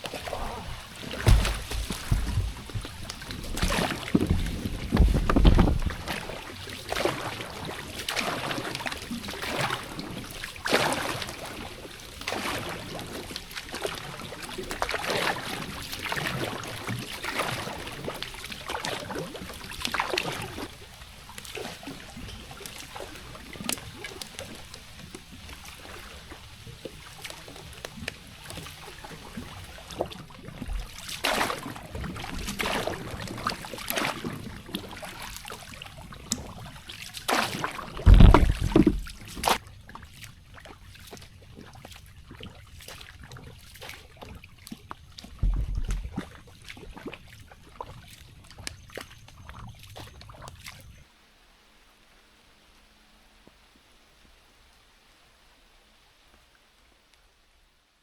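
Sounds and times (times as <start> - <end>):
water trickling: 0.0 - 51.0
water splashing and sloshing: 0.0 - 51.1.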